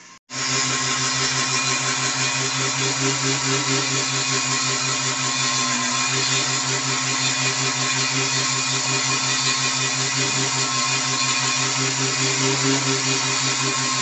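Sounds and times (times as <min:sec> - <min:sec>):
lathe motor hum: 0:00.0 - 0:14.0.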